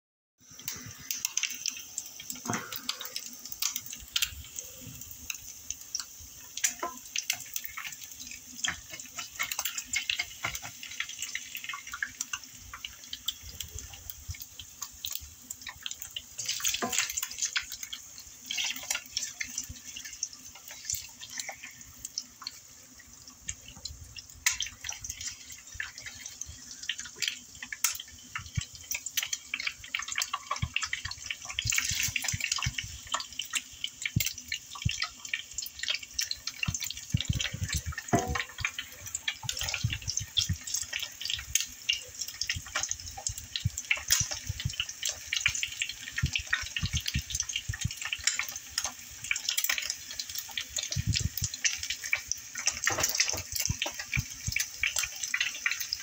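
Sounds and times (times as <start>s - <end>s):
eggs sizzling and popping in a pan: 0.4s - 56.0s.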